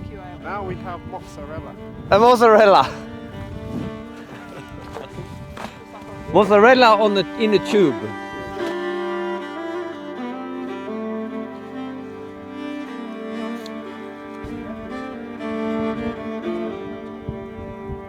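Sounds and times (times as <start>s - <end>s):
slow bowed string music: 0.0s - 18.0s.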